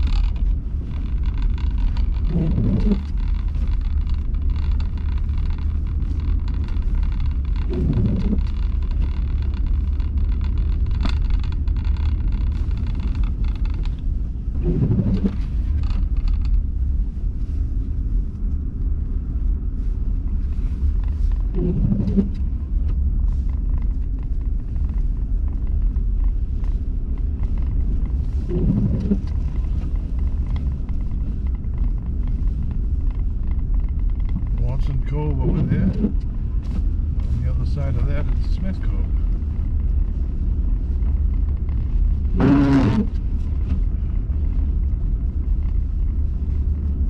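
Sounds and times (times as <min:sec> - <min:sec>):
car cabin road rumble: 0:00.0 - 0:47.0.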